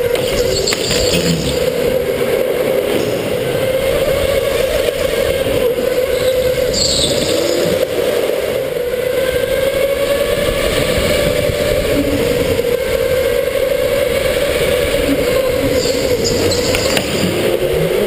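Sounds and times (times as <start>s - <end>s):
go-kart motor whine: 0.0s - 18.0s
rumbling wind and track noise: 0.0s - 18.0s.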